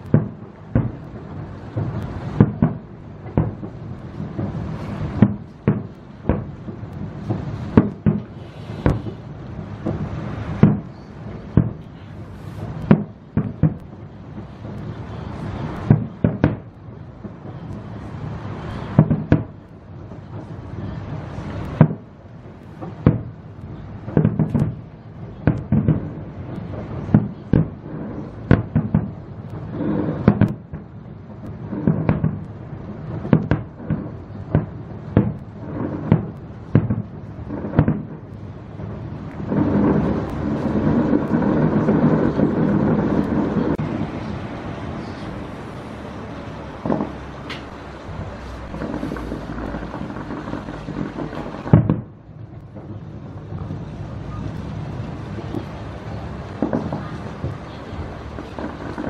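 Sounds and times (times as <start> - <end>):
fireworks bursting with bangs: 0.0 - 59.0
rumbling echo: 0.0 - 59.0.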